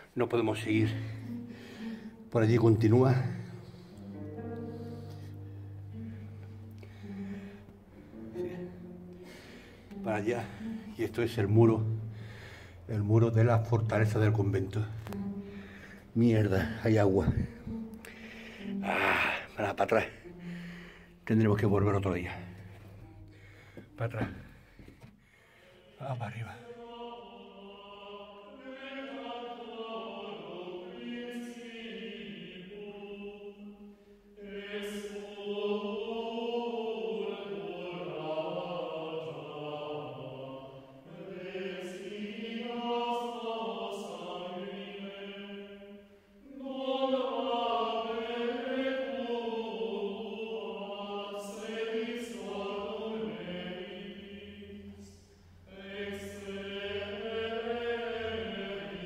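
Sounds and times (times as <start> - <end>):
slow vocal chant: 0.0 - 59.0.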